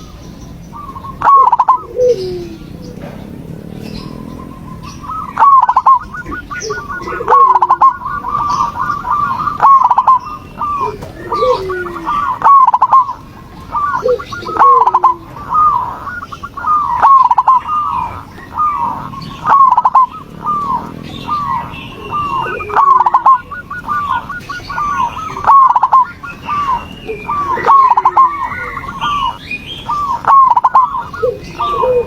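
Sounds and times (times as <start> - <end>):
doves trilling and cooing: 0.0 - 32.0.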